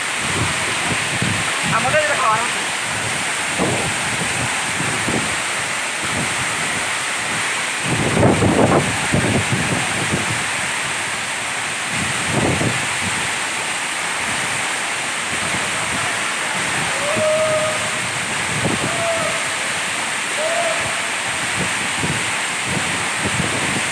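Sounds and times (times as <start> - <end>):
wind gust on microphone: 0.0 - 13.4, 15.2 - 23.9
waterfall rushing: 0.0 - 23.9.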